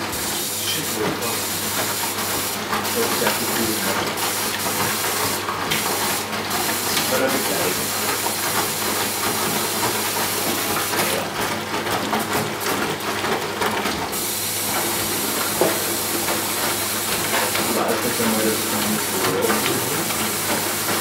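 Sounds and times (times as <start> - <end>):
washer-dryer running: 0.0 - 21.0.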